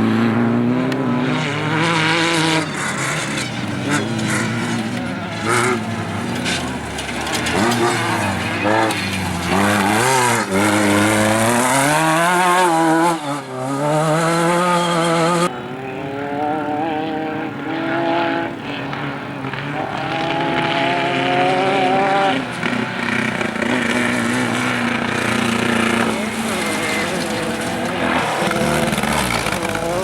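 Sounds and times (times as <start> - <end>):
race vehicle engines revving: 0.0 - 30.0.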